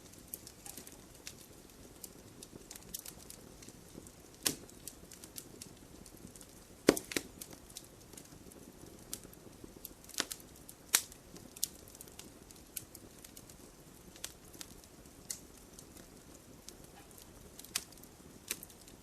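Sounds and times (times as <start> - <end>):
campfire popping and crackling: 0.0 - 19.0
faint steady hiss: 0.0 - 19.0.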